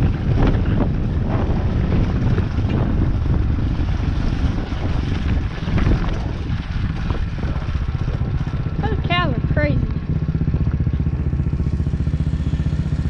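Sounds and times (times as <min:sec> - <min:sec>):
off-road vehicle engine running: 0:00.0 - 0:13.0
wind buffeting microphone: 0:00.0 - 0:13.0.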